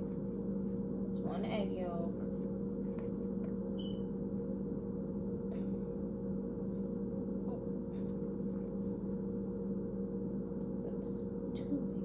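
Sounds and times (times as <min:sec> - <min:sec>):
appliance motor hum: 0:00.0 - 0:12.0.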